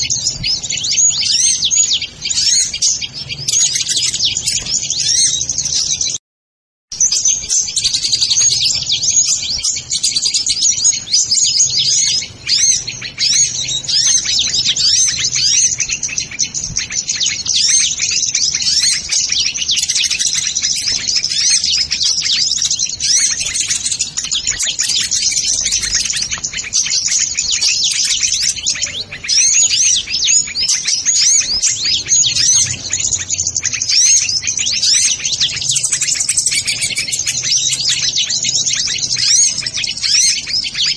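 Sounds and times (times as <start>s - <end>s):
small birds chirping: 0.0s - 6.2s, 6.9s - 40.9s.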